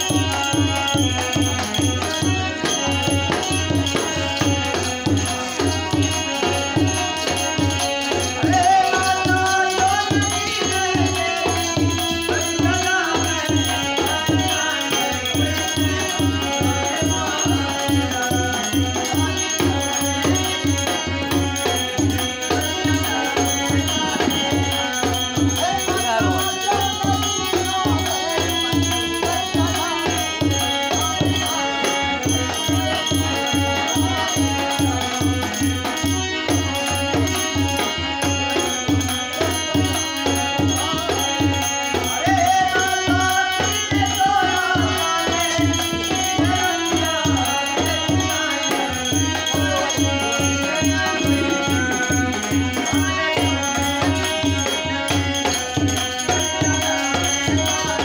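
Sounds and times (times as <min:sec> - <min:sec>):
dholak drum beating: 0:00.0 - 0:58.0
hand percussion: 0:00.0 - 0:58.0
person singing: 0:00.0 - 0:58.0.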